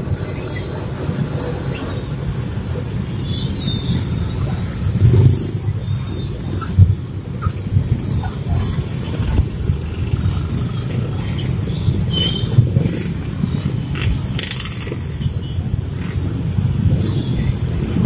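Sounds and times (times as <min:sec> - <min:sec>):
rumble of small engines: 0:00.0 - 0:18.0.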